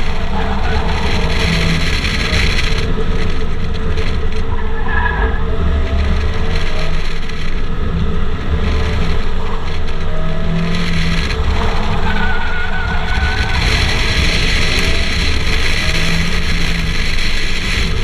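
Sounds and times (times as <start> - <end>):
car engine accelerating: 0.0 - 18.0
road and wind noise: 0.0 - 18.0.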